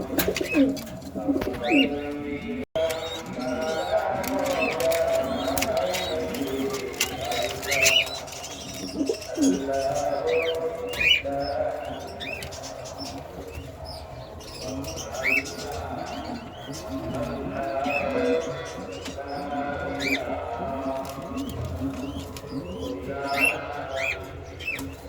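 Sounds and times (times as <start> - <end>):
pigeons cooing: 0.0 - 25.0
small cage birds chirping: 0.0 - 25.0.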